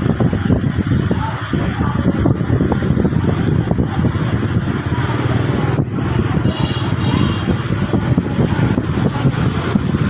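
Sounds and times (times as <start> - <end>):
motorbike engines running: 0.0 - 10.0
street traffic: 0.0 - 10.0.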